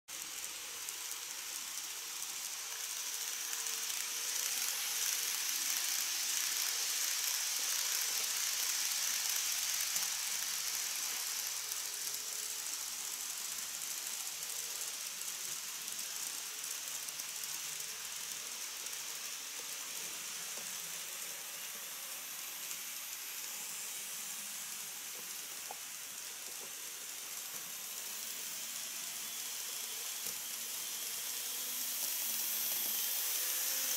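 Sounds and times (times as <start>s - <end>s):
model train whirring on track: 0.1s - 33.9s.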